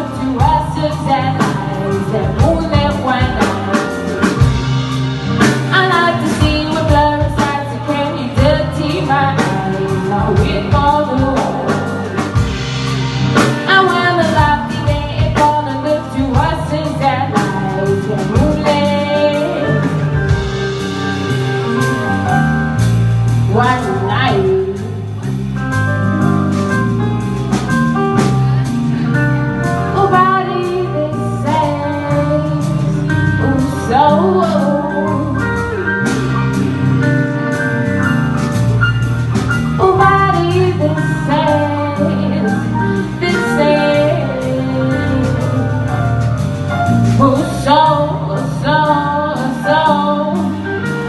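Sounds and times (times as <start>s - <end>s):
guitar: 0.0s - 51.0s.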